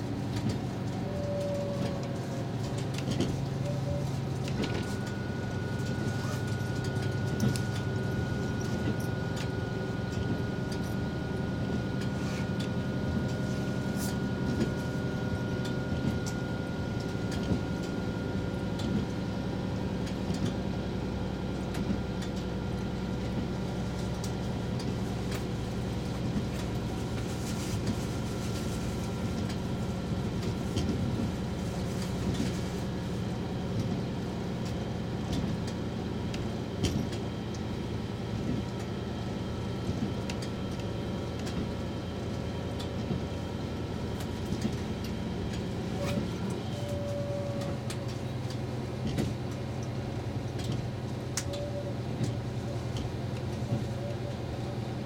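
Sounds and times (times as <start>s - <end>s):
train engine drone: 0.0s - 55.0s.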